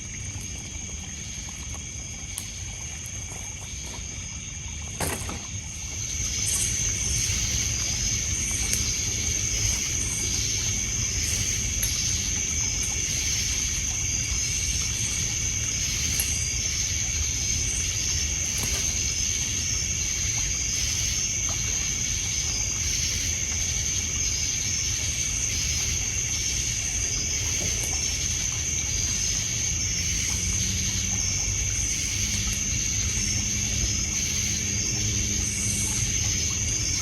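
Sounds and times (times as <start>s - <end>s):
campfire crackling: 0.0s - 30.3s
crickets and insects trilling: 0.0s - 37.0s
short insect chirps: 0.0s - 37.0s
water lapping on pebbles: 0.0s - 37.0s
low steady drone: 5.5s - 37.0s.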